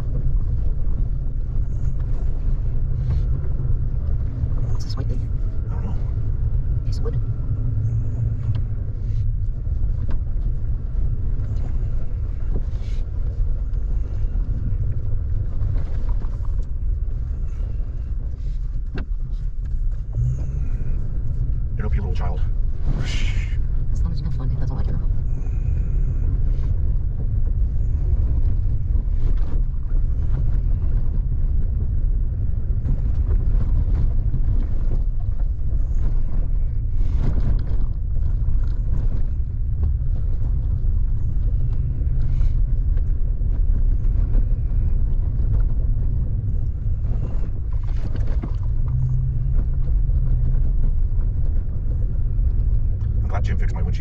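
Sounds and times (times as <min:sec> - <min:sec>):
vehicle rumbling: 0:00.0 - 0:54.0.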